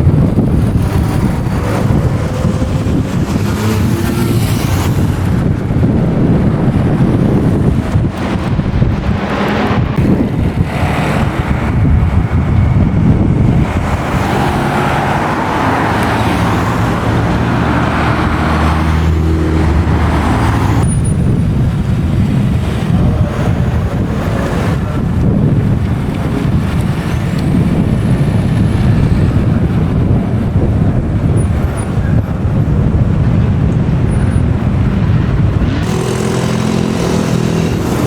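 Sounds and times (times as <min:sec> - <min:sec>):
car engines passing: 0:00.0 - 0:38.0.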